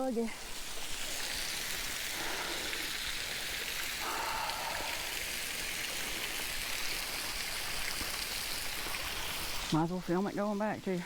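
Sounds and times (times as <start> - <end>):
waterfall splashing onto rock: 0.4 - 10.8.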